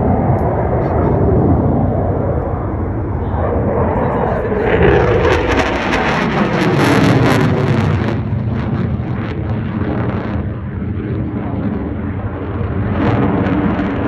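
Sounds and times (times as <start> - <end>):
jet passing overhead: 0.0 - 14.0.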